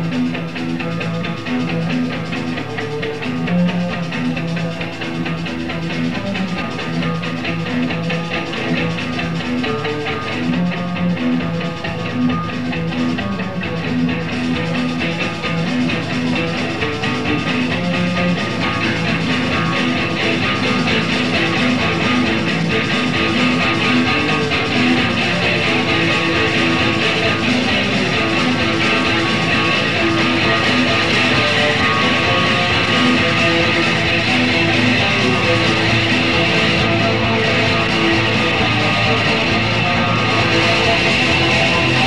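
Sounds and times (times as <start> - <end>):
punk rock band playing: 0.0 - 42.0.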